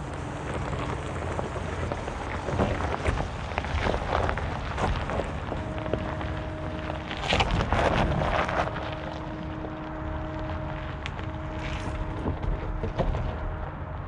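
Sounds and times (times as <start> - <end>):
truck engine rumbling with whine: 0.0 - 14.0
tyres crunching over gravel: 0.0 - 14.0.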